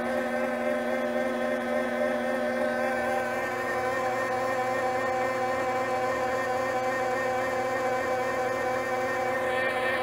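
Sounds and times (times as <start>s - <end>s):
lathe motor whine: 0.0s - 10.0s.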